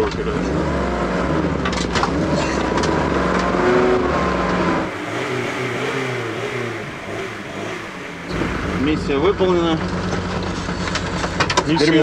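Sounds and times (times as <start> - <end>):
diesel engine under load: 1.6 - 12.0.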